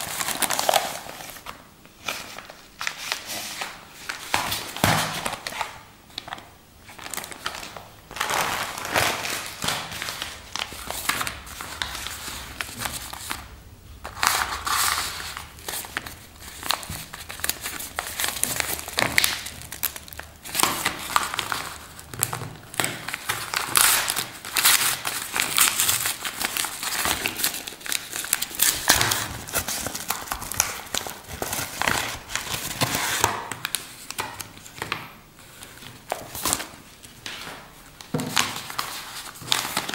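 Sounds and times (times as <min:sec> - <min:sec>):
envelope crinkling and rustling: 0:00.0 - 0:39.9
plastic packets rustling: 0:00.0 - 0:39.9.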